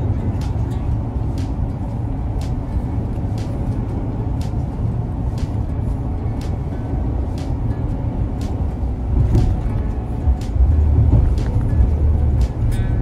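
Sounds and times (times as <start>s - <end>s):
truck cabin road rumble: 0.0s - 13.0s.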